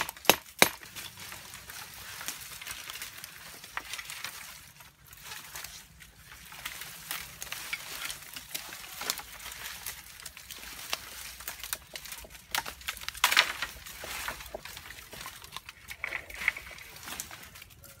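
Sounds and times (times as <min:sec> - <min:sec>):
bamboo leaves rustling: 0:00.7 - 0:18.0
bamboo stems snapping: 0:01.7 - 0:18.0.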